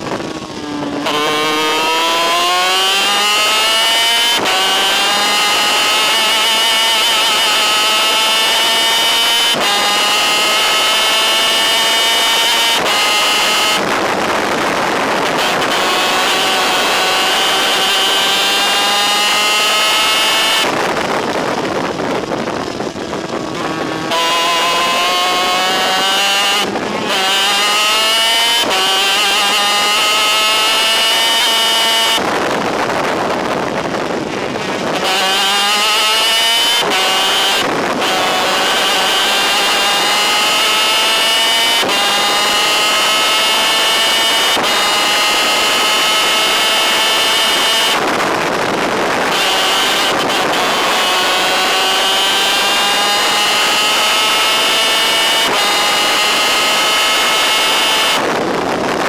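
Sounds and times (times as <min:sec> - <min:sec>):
kart engine at full throttle: 0:00.0 - 0:59.0.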